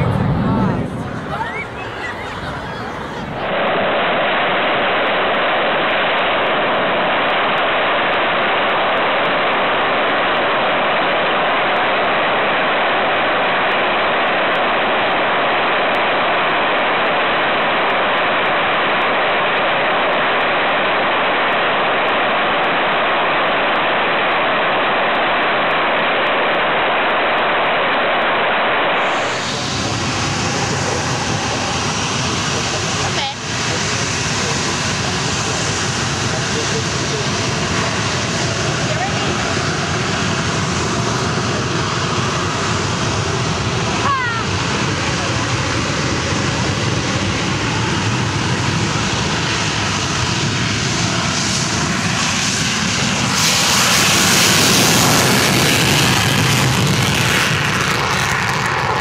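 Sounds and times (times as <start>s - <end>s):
deeper jet engine sound: 0.0s - 59.0s
jet engine roaring: 0.0s - 59.0s.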